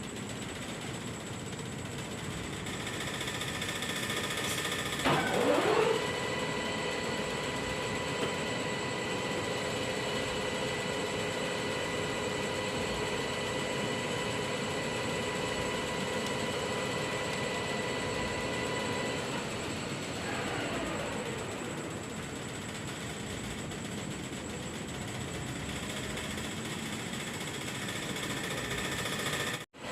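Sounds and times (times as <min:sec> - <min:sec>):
milling machine spindle whine: 0:00.0 - 0:29.9.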